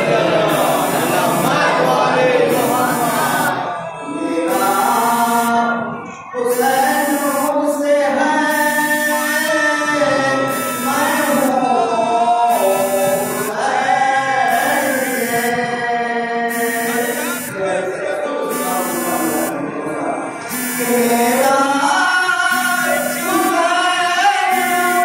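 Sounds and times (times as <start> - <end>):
man chanting a lament: 0.0 - 25.0.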